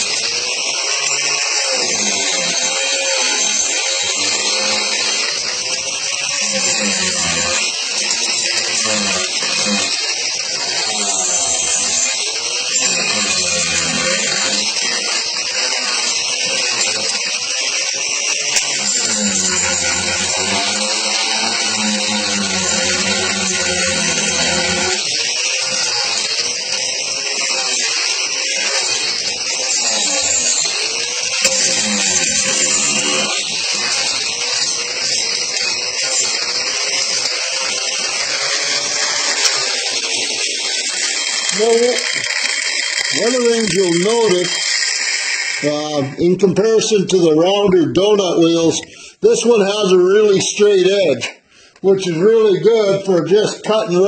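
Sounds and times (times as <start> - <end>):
angle grinder grinding wood: 0.0 - 54.0.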